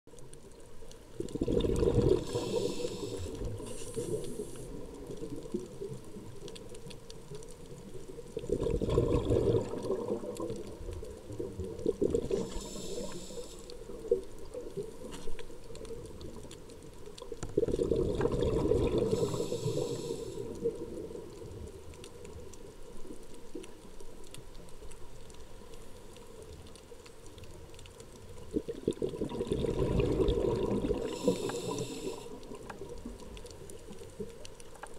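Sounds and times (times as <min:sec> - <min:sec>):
underwater bubbles rumbling: 0:00.2 - 0:34.9.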